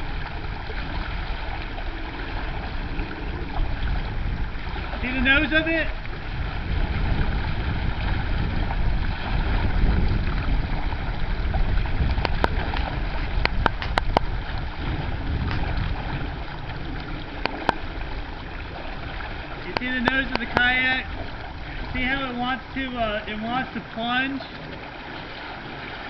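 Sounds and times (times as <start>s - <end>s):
water splashing around kayak bow: 0.0s - 26.0s
wind buffeting microphone: 0.0s - 26.0s.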